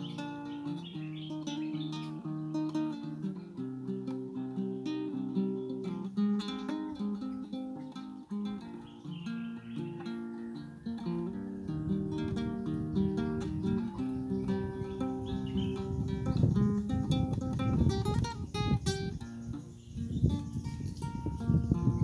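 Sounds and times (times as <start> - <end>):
classical guitar playing: 0.0 - 22.0.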